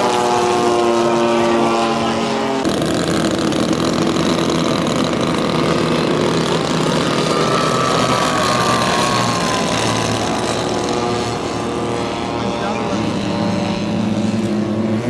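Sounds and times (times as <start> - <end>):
model airplane engines running: 0.0 - 15.0.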